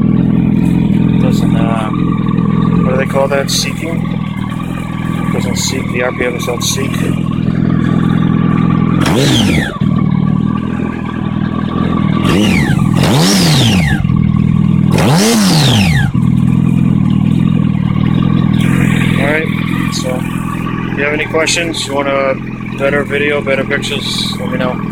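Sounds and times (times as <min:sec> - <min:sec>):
motorcycle engine idling: 0:00.0 - 0:24.9
throttle blips: 0:00.0 - 0:24.9.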